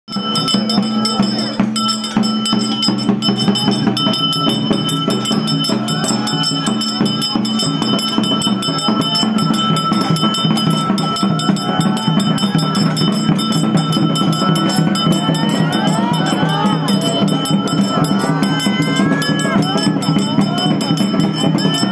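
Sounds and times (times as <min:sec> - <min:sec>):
fast percussion beat: 0:00.1 - 0:21.9
ringing bells and jingles: 0:00.1 - 0:21.9.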